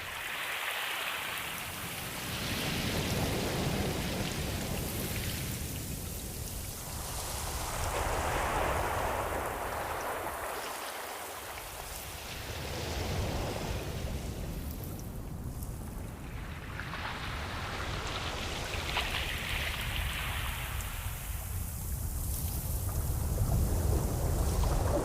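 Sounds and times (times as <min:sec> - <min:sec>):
ocean waves washing: 0:00.0 - 0:25.0.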